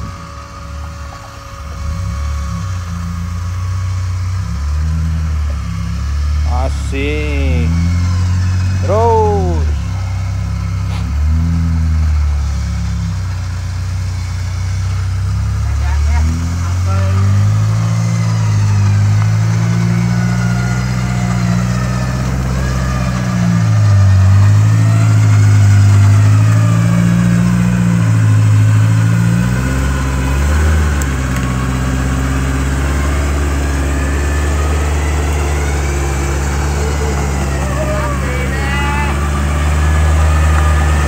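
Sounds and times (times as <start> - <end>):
off-road vehicle engine running: 0.0 - 41.0.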